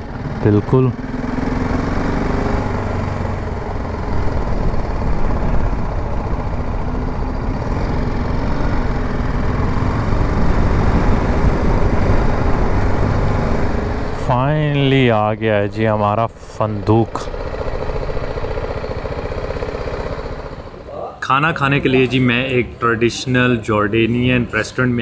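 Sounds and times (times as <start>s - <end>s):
motorcycle engine running: 0.0s - 21.8s
road noise: 0.0s - 25.0s.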